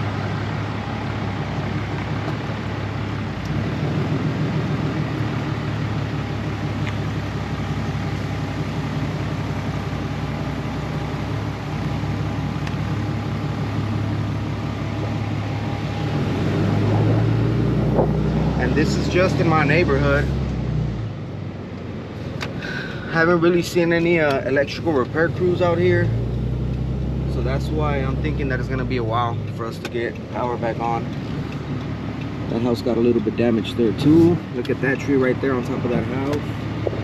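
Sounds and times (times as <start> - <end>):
truck engine and road rumble: 0.0 - 37.0.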